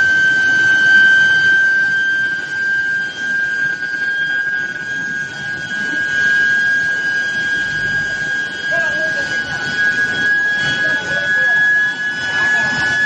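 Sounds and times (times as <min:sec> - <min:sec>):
continuous rumbling: 0:00.0 - 0:13.0
high-pitched furnace tone: 0:00.0 - 0:13.0.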